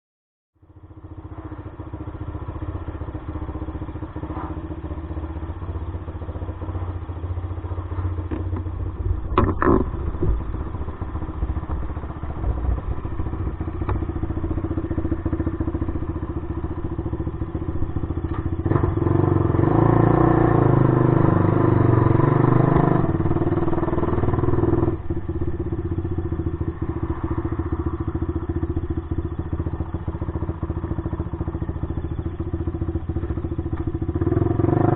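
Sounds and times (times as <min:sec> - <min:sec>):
quad engine idling and revving: 0:00.7 - 0:34.9.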